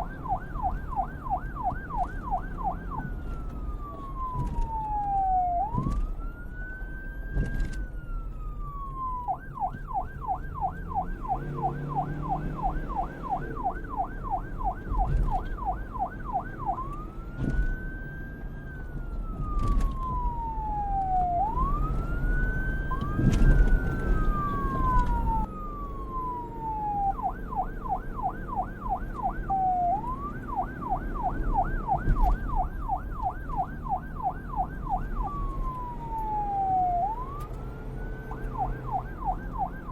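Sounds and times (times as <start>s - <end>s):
police siren wail and yelp: 0.0s - 39.9s.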